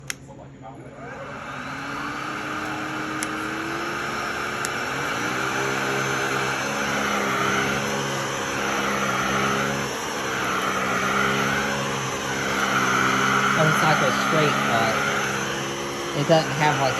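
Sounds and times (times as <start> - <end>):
vacuum cleaner motor whine: 0.0 - 16.9.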